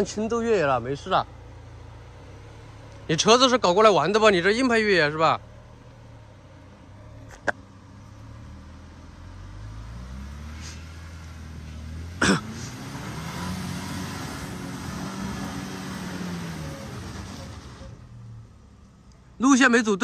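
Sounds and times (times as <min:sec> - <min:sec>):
suv engine revving: 0:00.0 - 0:18.9.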